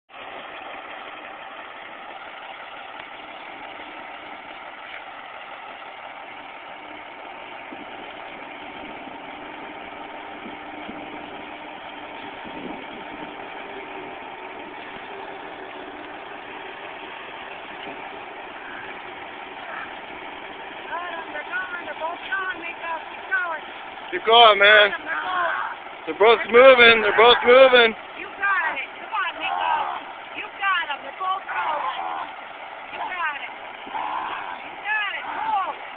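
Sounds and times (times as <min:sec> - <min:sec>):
truck diesel engines idling: 0:00.1 - 0:35.9.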